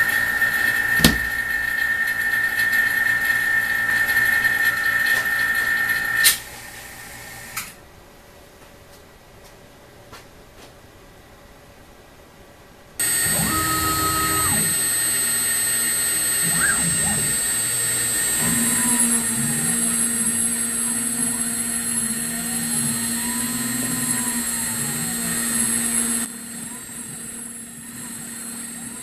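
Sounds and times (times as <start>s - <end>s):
cutter whines rising and falling: 0.0s - 7.6s, 13.0s - 29.0s
spindle high whine: 0.0s - 7.8s, 13.0s - 29.0s.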